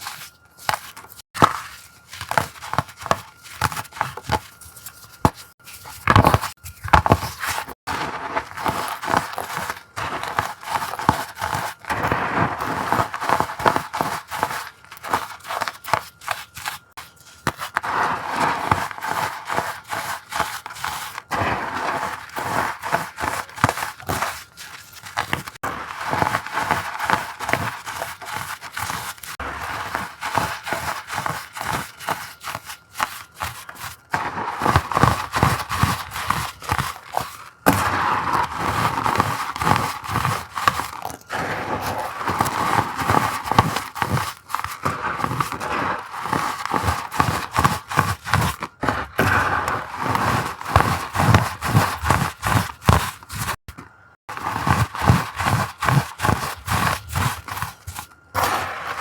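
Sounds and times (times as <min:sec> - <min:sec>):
crushed blocks crunching and crackling: 0:00.0 - 0:59.0.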